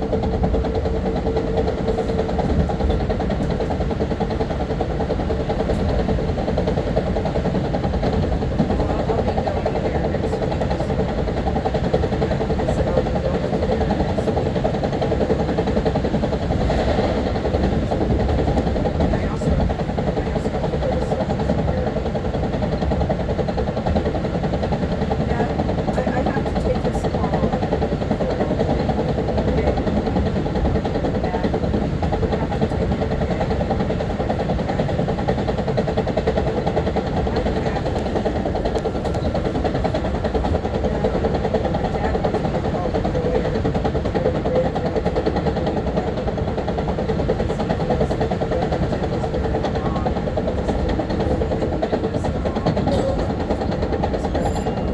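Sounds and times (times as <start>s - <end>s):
railcar interior low rumble: 0.0s - 54.9s.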